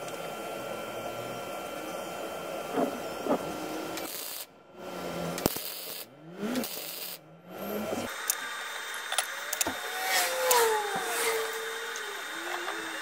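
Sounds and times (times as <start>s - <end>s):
welding arc hiss and crackle: 0.0s - 7.2s, 8.0s - 13.0s.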